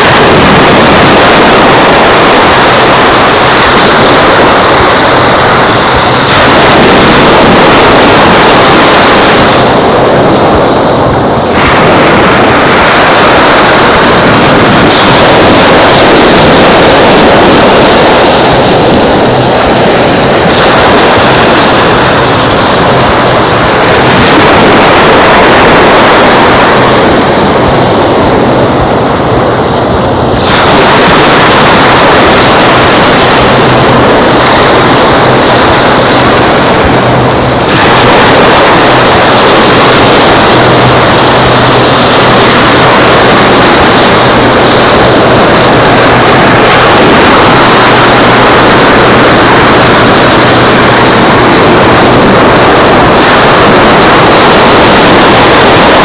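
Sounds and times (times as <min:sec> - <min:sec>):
breaking surf: 0:00.0 - 0:56.0
wind on microphone: 0:00.0 - 0:56.0.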